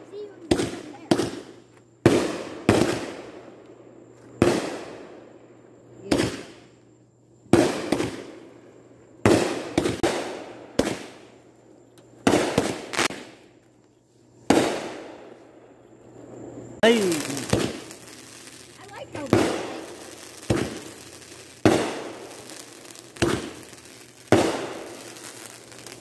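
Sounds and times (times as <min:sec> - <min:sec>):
fireworks bursting: 0:00.0 - 0:03.7, 0:04.3 - 0:06.9, 0:07.5 - 0:13.8, 0:14.4 - 0:26.0.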